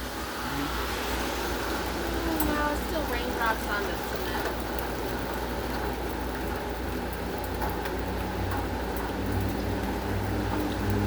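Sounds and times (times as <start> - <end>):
rain on concrete: 0.0 - 11.0.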